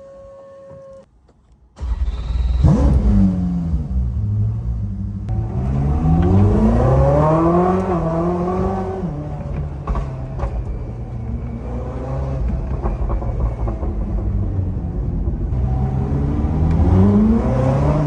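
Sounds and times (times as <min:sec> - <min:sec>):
car engine accelerating: 0:01.8 - 0:18.0.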